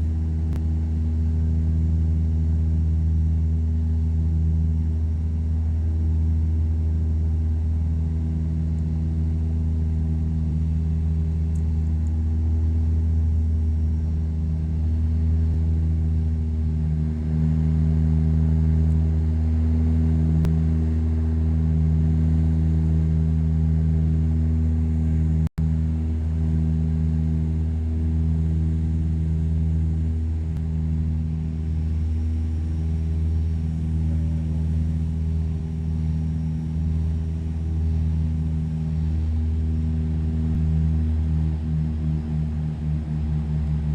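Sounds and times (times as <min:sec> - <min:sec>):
turboprop engine drone: 0:00.0 - 0:43.9.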